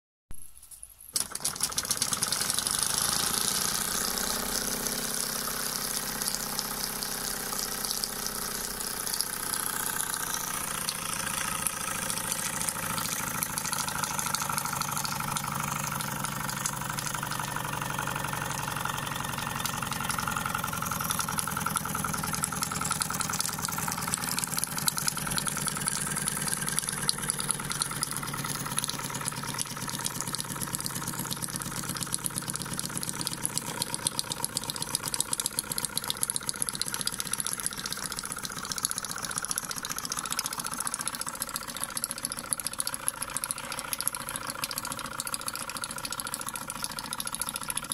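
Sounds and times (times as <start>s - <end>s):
model steam engine running: 1.1s - 47.9s.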